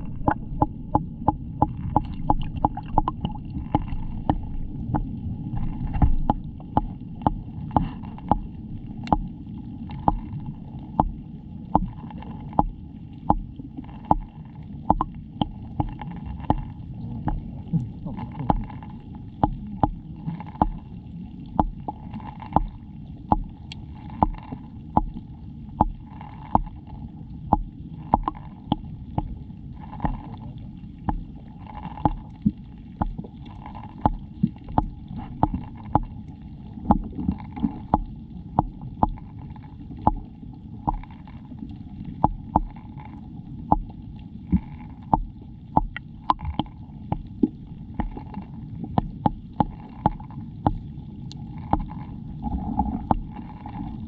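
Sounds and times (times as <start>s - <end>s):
sharp underwater clicks: 0.0s - 20.9s, 21.5s - 26.8s, 27.4s - 30.4s, 31.0s - 52.2s
muffled underwater water rumble: 0.0s - 54.0s.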